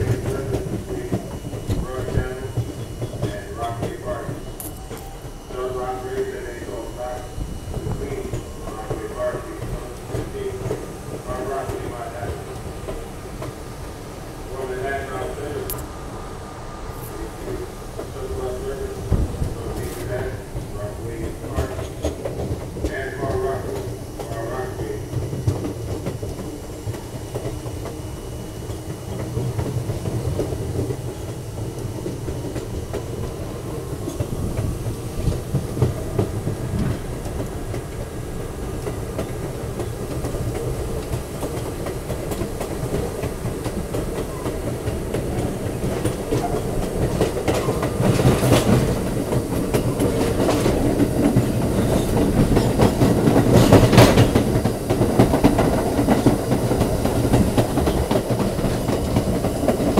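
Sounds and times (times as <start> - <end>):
subway train wheels clattering: 0.0 - 59.9
train rumble: 0.0 - 59.9.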